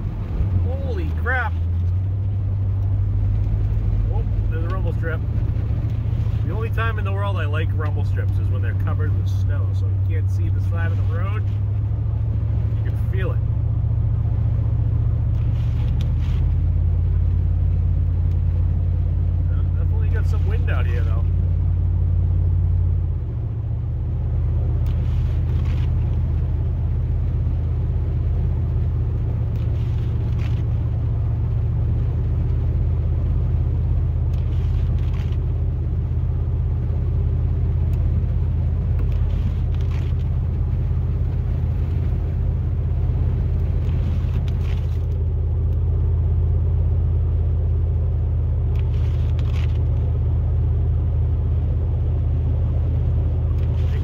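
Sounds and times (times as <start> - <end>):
engine and road drone: 0.0 - 54.0.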